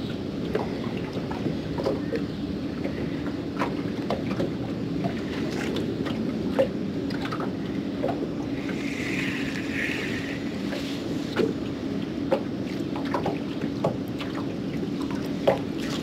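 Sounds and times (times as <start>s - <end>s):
steady low hum: 0.0s - 16.0s
waves lapping against boat hull: 0.0s - 16.0s.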